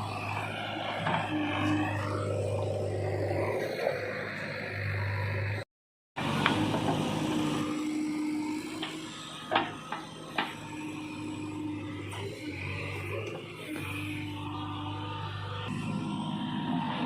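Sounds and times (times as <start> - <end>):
diesel engine running: 0.0 - 5.6, 6.2 - 17.0.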